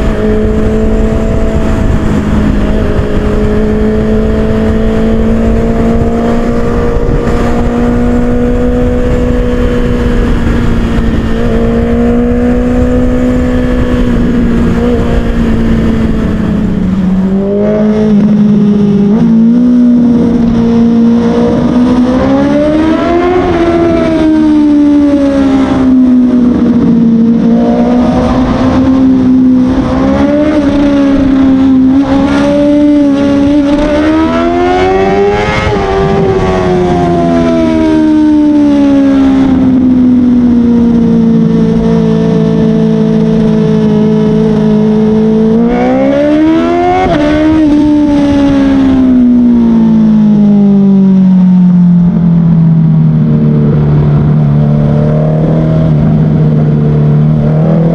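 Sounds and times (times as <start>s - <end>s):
motorcycle engine revving: 0.0s - 57.9s
wind noise: 0.0s - 57.9s.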